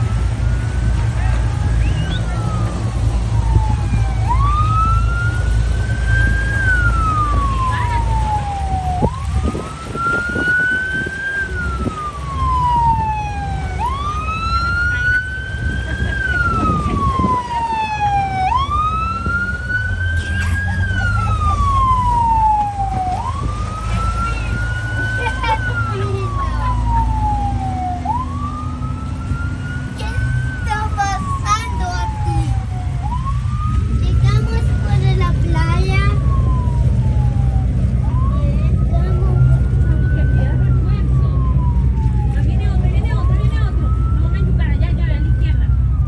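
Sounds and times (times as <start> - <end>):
boat siren wailing: 0.0 - 46.0.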